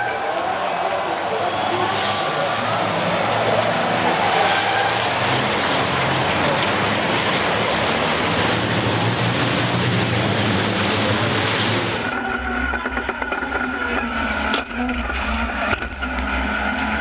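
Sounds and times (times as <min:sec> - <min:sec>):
truck engines running hard: 0:00.0 - 0:17.0.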